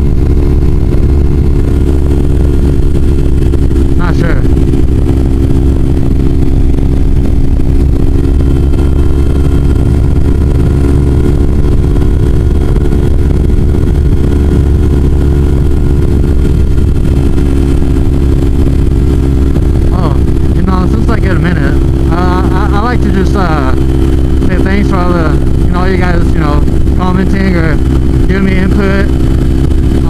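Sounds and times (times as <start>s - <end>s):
motorcycle engine cruising: 0.0s - 30.0s
wind rush on microphone: 0.0s - 30.0s.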